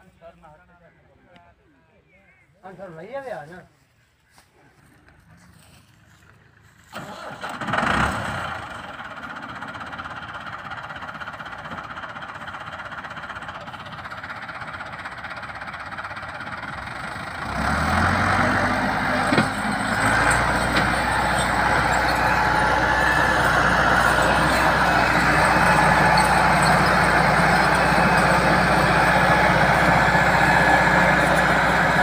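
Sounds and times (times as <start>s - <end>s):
tractor diesel engine under load: 4.8s - 32.0s.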